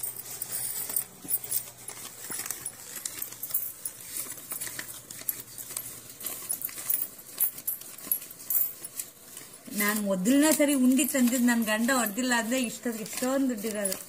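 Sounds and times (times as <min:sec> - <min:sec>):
coins clinking: 0:00.0 - 0:14.0.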